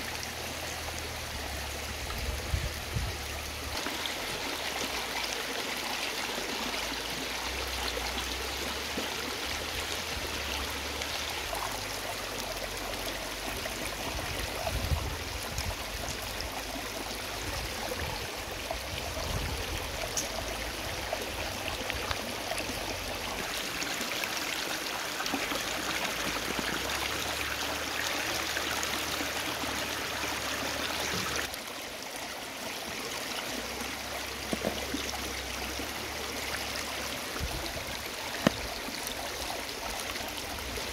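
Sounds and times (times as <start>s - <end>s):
creek water rushing over rocks: 0.0s - 40.9s.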